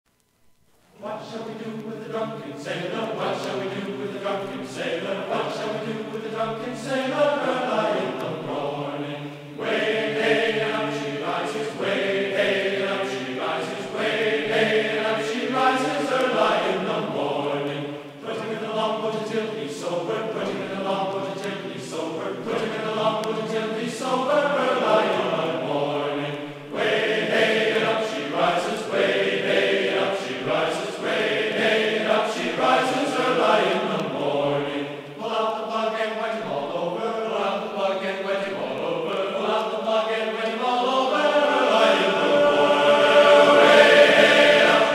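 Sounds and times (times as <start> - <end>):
choral chanting: 0.9 - 44.9.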